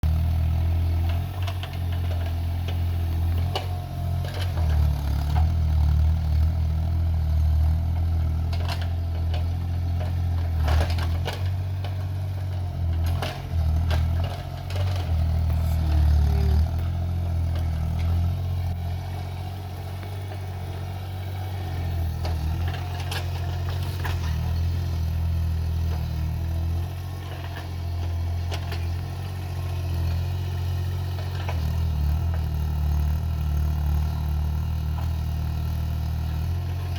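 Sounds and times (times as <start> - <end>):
excavator diesel engine: 0.0 - 36.9.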